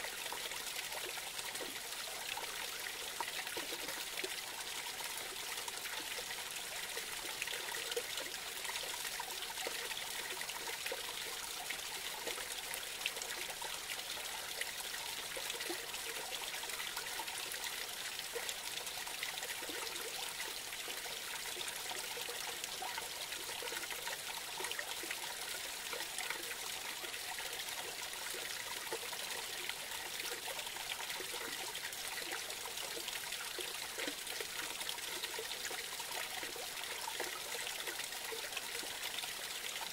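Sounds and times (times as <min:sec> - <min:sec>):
creek trickling and splashing: 0:00.0 - 0:39.9.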